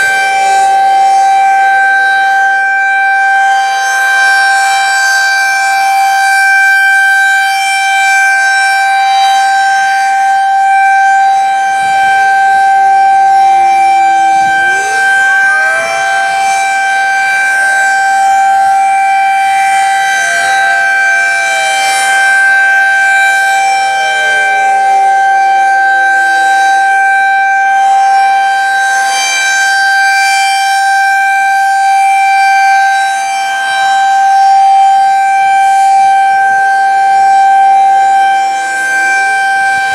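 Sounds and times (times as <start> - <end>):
distant sirens wailing: 0.0 - 4.8, 5.7 - 39.9
high-pitched warning siren: 0.0 - 39.9.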